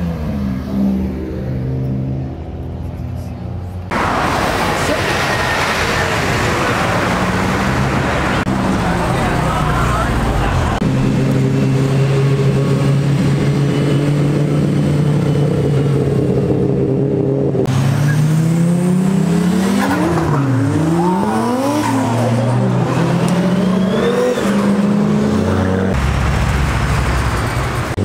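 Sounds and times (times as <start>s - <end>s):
car engine at high revs: 0.0s - 28.0s
car engines revving past: 0.0s - 28.0s.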